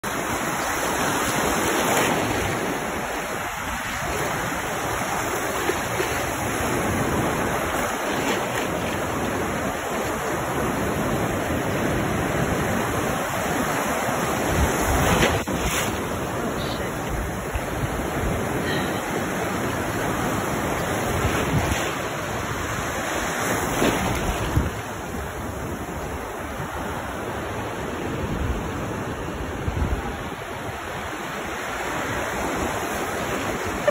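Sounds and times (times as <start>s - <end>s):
waves breaking on sand: 0.0s - 33.9s.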